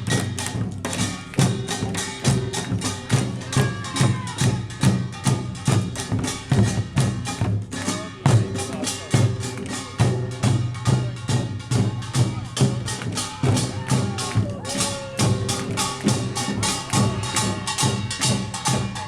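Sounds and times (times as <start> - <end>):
barrel drums: 0.0 - 19.0
hourglass drums: 0.0 - 19.0
small gongs clanging: 0.0 - 19.0.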